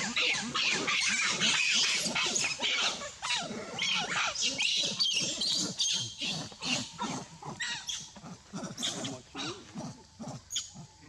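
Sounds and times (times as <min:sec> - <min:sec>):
macaques calling: 0:00.0 - 0:09.8.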